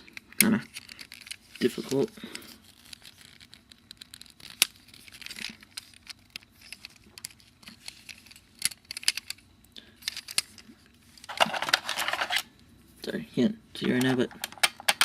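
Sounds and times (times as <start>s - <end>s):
plastic toy parts clicking: 0.1s - 2.0s, 2.7s - 9.4s, 10.0s - 12.4s, 13.8s - 15.0s.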